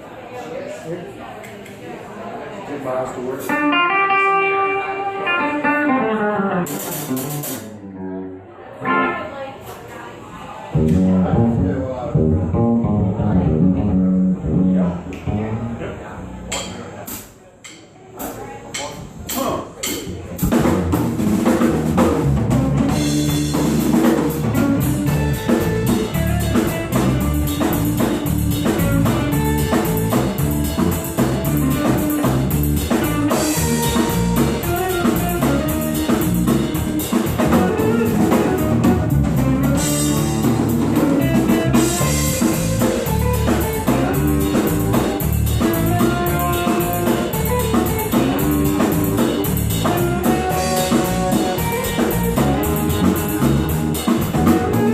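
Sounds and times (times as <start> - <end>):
drum kit: 3.5 - 7.8, 10.7 - 54.9
bass guitar: 3.5 - 9.4, 10.7 - 17.2, 20.1 - 54.9
electric guitar: 3.5 - 9.5, 10.7 - 16.5, 20.4 - 54.9.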